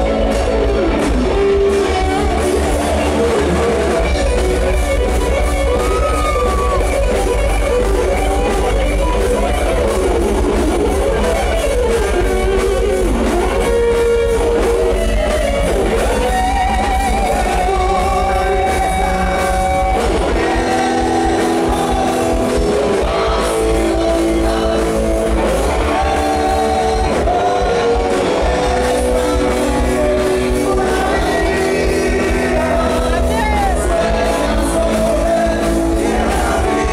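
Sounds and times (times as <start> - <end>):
electric guitars: 0.0 - 36.9
live rock band playing: 0.0 - 36.9
person singing: 1.2 - 36.9.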